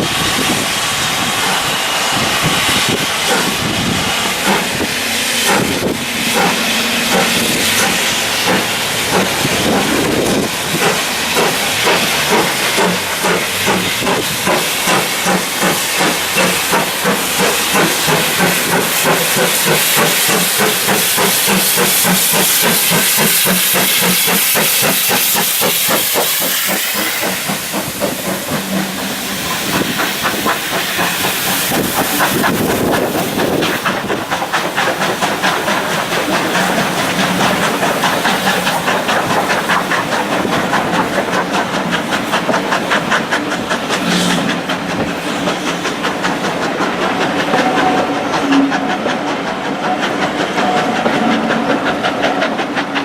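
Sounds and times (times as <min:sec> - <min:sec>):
loud hiss of steam: 0:00.0 - 0:53.0
steam locomotive exhaust beats: 0:00.0 - 0:53.0.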